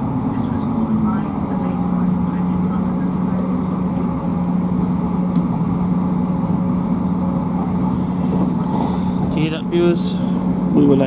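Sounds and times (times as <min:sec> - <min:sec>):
train interior drone: 0:00.0 - 0:11.0
wheels rumbling on track: 0:00.0 - 0:11.0.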